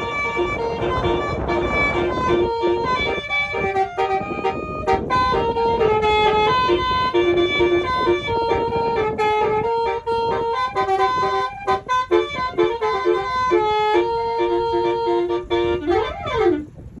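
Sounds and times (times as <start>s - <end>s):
musical bus horn melody: 0.0s - 17.0s.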